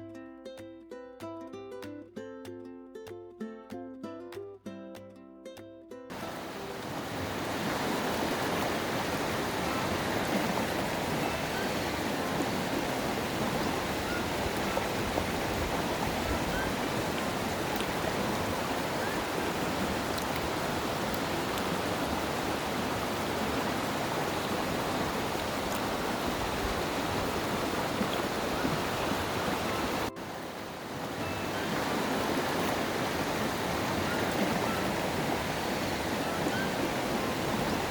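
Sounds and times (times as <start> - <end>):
river water rushing: 6.1 - 37.9.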